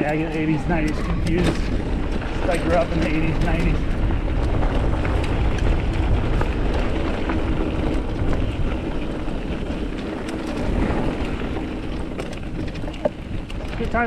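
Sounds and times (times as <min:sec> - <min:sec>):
mountain bike rolling on dirt trail: 0:00.0 - 0:14.0
wind noise on microphone: 0:00.0 - 0:14.0.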